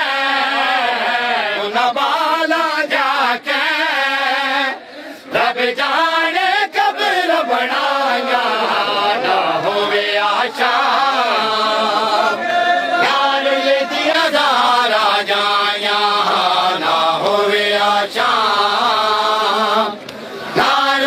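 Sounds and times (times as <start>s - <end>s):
men chanting a mourning lament: 0.0s - 21.0s.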